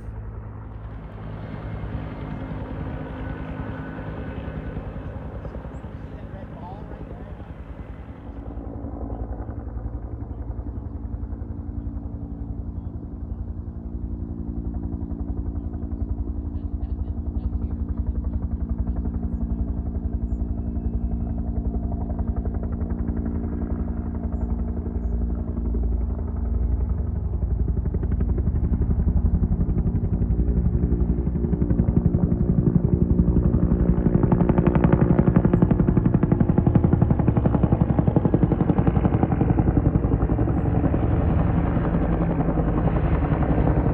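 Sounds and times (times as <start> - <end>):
helicopter flying overhead: 0.0 - 43.9.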